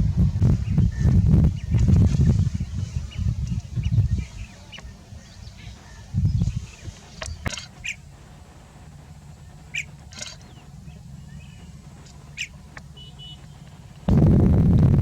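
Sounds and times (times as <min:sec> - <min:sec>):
birds chirping: 0:00.0 - 0:14.1
low steady rumble: 0:00.0 - 0:15.0.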